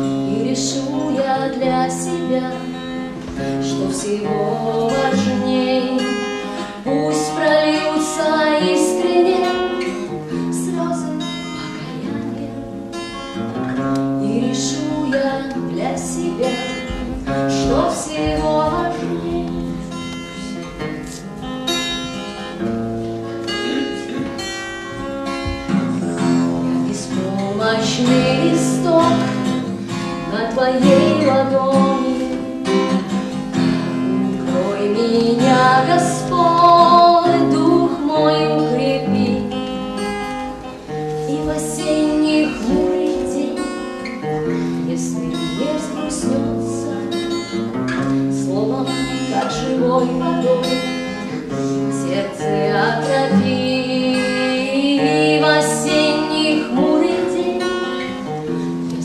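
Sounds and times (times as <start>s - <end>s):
woman singing: 0.0s - 22.6s, 25.2s - 59.0s
acoustic guitar: 0.0s - 59.0s.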